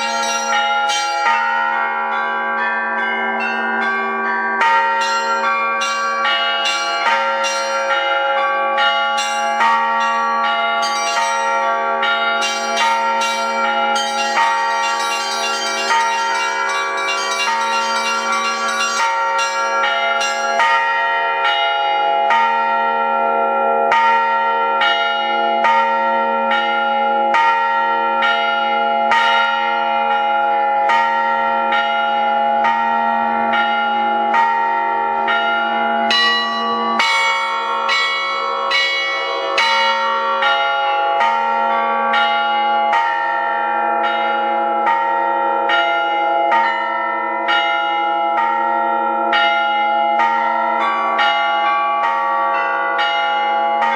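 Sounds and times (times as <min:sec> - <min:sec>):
hand-struck bells ringing: 0:00.0 - 0:23.3, 0:23.9 - 0:53.9
low bells ringing hum: 0:00.0 - 0:53.9.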